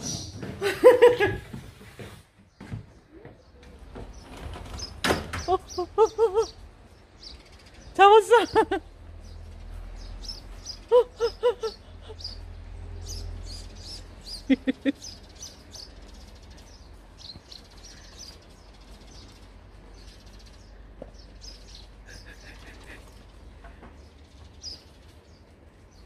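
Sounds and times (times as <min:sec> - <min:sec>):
sparrows chirping: 0:00.0 - 0:01.4, 0:02.4 - 0:26.0.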